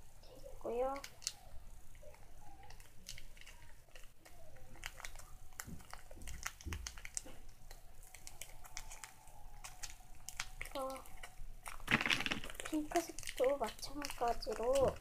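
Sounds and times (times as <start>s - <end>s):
clay crinkling and clicking: 0.9s - 15.0s.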